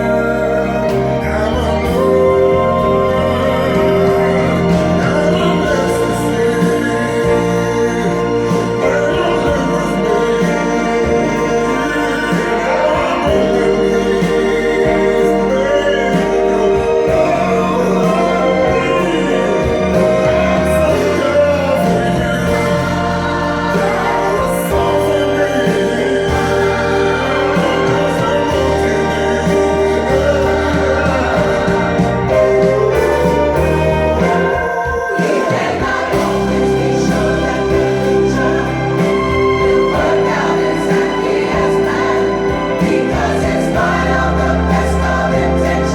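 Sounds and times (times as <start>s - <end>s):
soul-jazz song with vocals: 0.0s - 45.9s.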